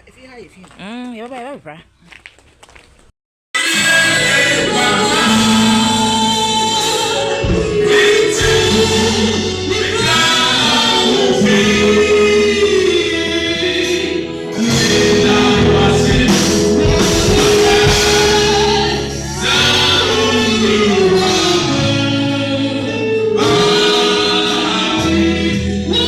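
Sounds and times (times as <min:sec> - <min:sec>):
gospel choir singing: 0:03.6 - 0:26.0
steady bass accompaniment: 0:03.8 - 0:26.0.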